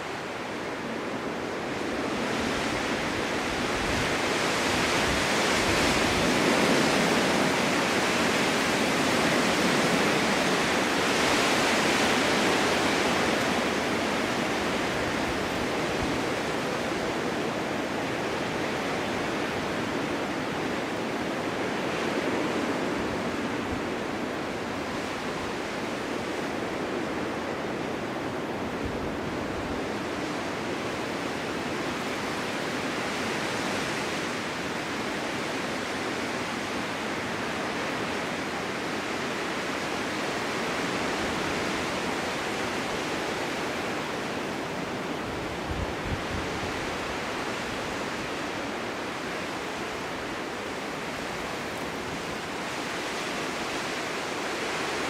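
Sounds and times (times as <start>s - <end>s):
wind gusting: 0.9s - 31.6s, 40.8s - 55.0s.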